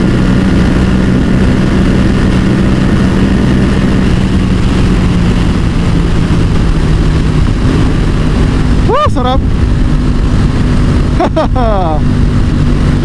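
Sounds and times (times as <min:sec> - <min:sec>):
motorcycle engine at high speed: 0:00.0 - 0:13.0
wind noise on microphone: 0:00.0 - 0:13.0.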